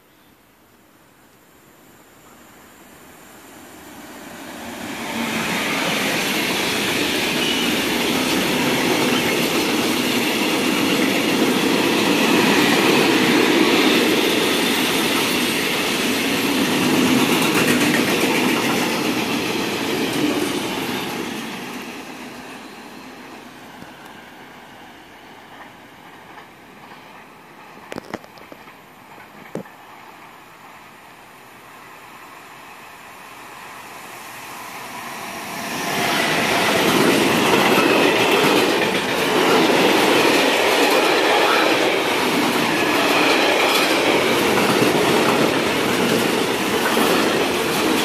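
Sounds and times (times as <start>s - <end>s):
train wheels rushing on rails: 3.1s - 48.0s.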